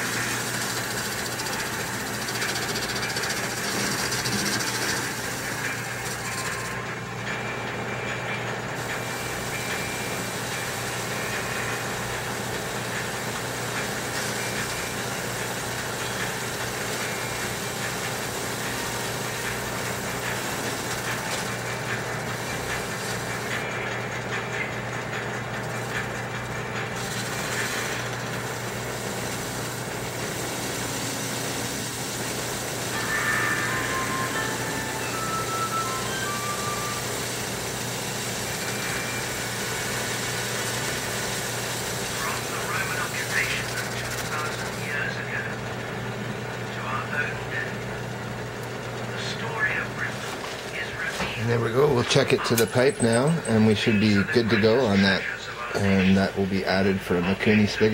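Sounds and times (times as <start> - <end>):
metal lathe cutting steel: 0.0 - 55.2
motor hum: 0.0 - 57.9.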